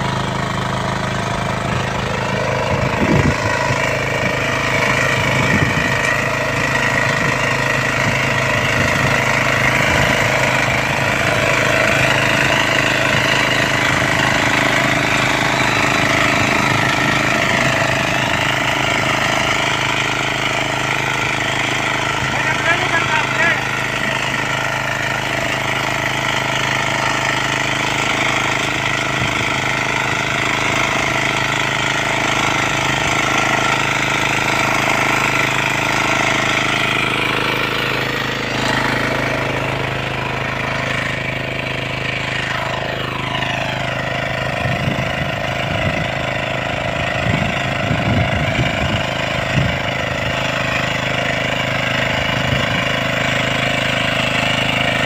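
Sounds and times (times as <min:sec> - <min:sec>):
power weeder engine running: 0:00.0 - 0:55.0.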